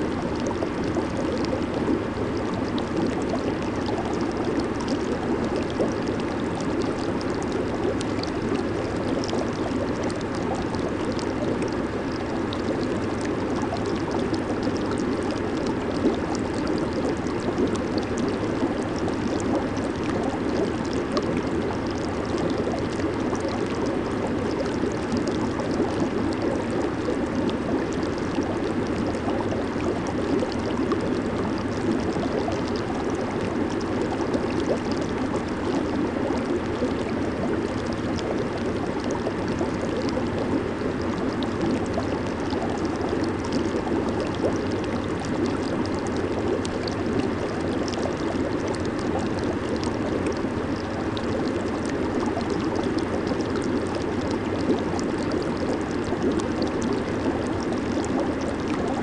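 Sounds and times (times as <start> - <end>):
hot tub water bubbling: 0.0 - 59.0.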